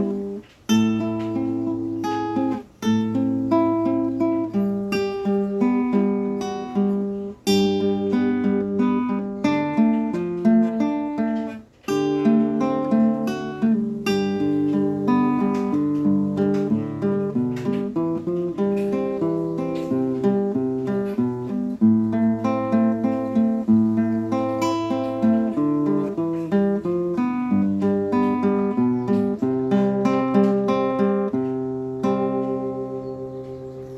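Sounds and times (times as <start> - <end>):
acoustic guitar music: 0.0 - 33.9.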